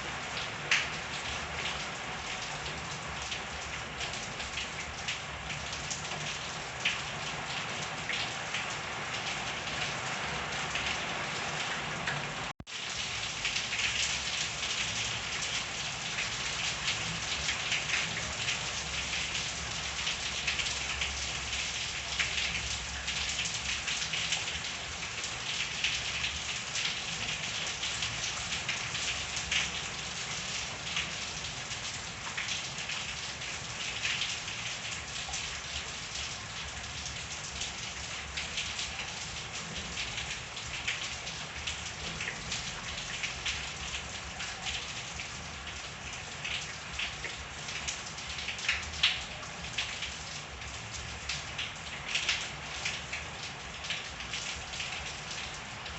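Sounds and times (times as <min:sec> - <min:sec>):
steady rain: 0:00.0 - 0:55.9
water drips and splashes: 0:00.0 - 0:55.9.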